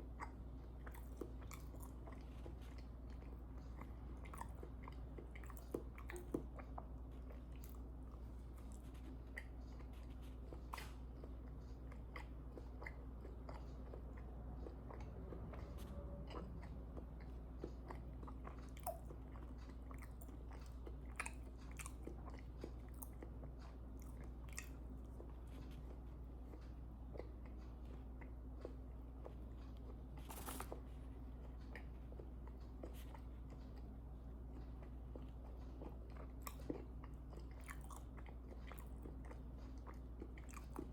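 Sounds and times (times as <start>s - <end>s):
chewing mouth clicks and smacks: 0.0s - 40.9s
steady low hum: 0.0s - 40.9s.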